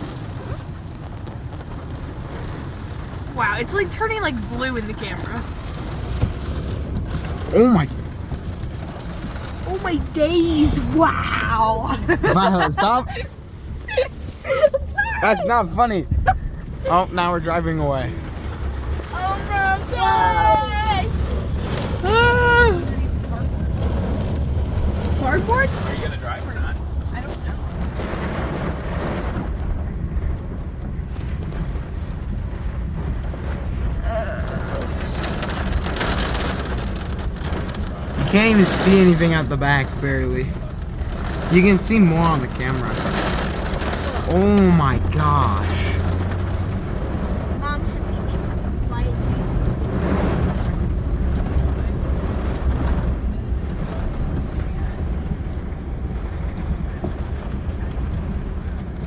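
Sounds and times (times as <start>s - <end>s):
car interior rumble: 0.0s - 59.0s
rain pattering on car: 0.0s - 59.0s.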